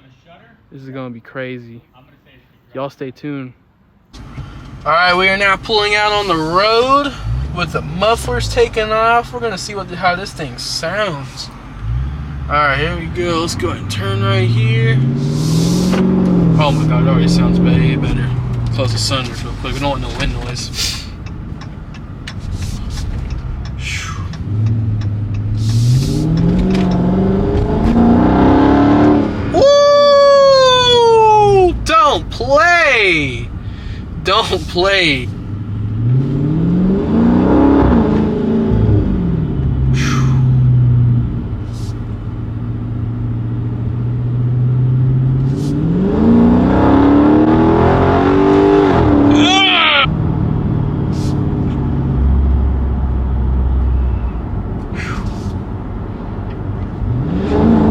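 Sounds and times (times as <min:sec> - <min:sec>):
car engine accelerating: 0:04.2 - 0:57.9.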